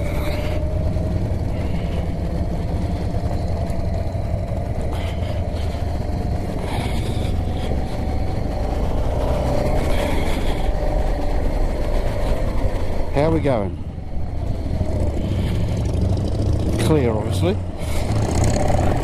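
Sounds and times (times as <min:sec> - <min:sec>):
faint steady hum: 0:00.0 - 0:19.0
motorcycle engine running: 0:00.0 - 0:19.0.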